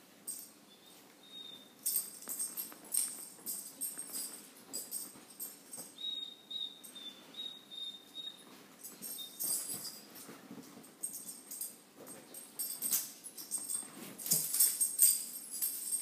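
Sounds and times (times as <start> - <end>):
dog collar tags jingling: 0.3 - 7.0, 8.2 - 16.0.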